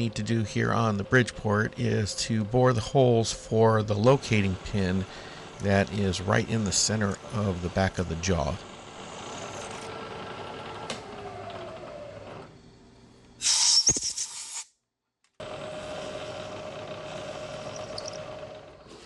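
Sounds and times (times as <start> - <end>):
milling machine hum with whine: 0.0 - 13.3, 15.4 - 19.0.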